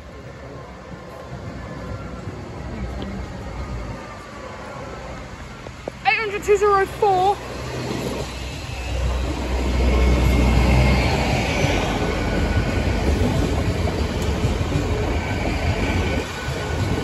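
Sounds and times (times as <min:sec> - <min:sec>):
train rumbling past: 0:00.0 - 0:17.0
train wheels on rails: 0:00.0 - 0:17.0.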